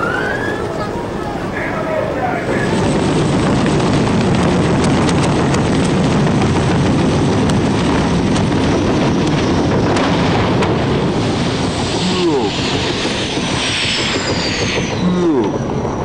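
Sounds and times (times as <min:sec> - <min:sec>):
helicopter rotors roaring: 0:00.0 - 0:16.0
wind on microphone: 0:00.0 - 0:16.0.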